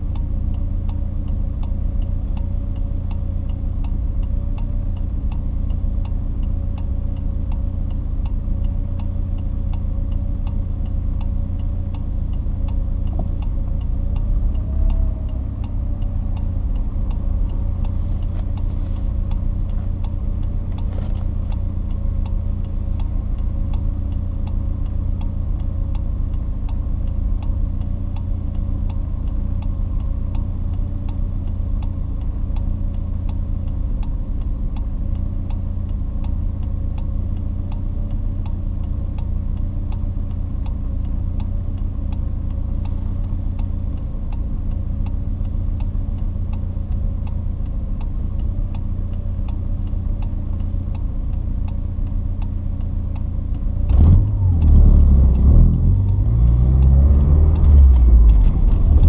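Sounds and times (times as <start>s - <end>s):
car engine idling and revving: 0.0s - 59.0s
faint even engine ticking: 0.0s - 59.0s.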